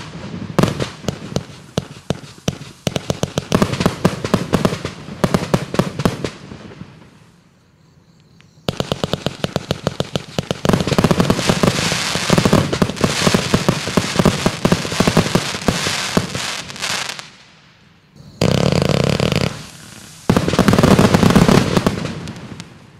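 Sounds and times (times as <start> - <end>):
fireworks shots and crackling: 0.0 - 7.3, 8.6 - 17.6, 18.2 - 22.9.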